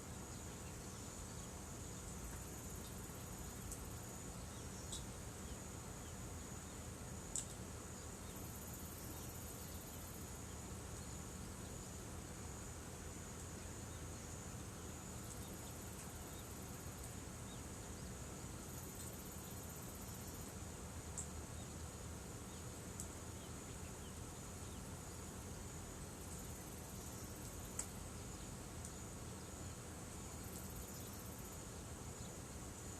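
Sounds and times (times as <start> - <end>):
high insect trill: 0.0 - 32.9
insects chirring: 0.0 - 32.9.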